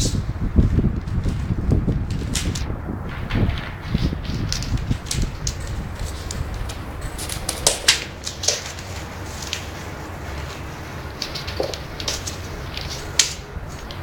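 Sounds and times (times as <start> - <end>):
kittens scuffling: 0.0 - 14.0
low steady rumble: 0.0 - 14.0.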